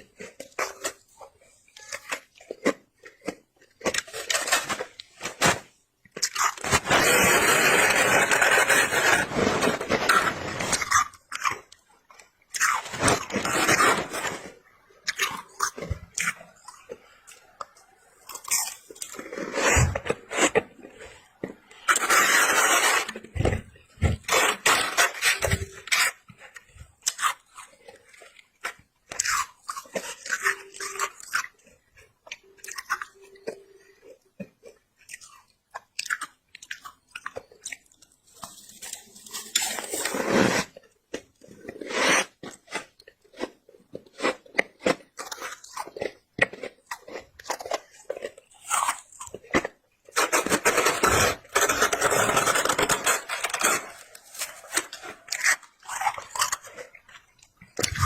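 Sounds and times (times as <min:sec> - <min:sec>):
person crunching frost: 0:00.0 - 0:58.0.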